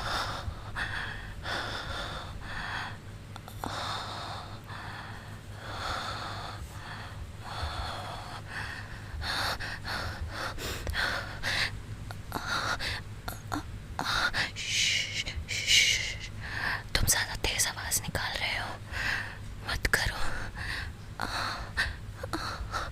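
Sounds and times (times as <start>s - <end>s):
woman breathing heavily with gasps: 0.0s - 17.0s, 18.6s - 22.9s.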